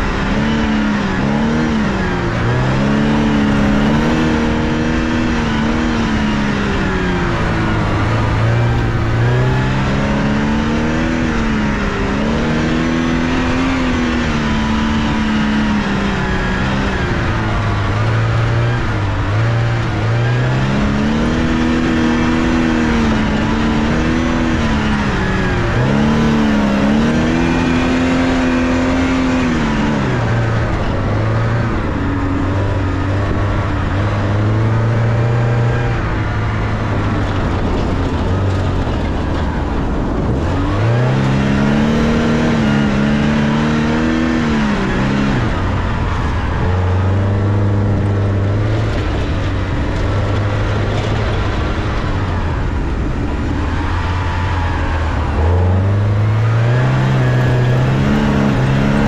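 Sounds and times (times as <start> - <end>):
car engine under hard driving: 0.0 - 59.0
tyres rushing on dirt: 0.0 - 59.0.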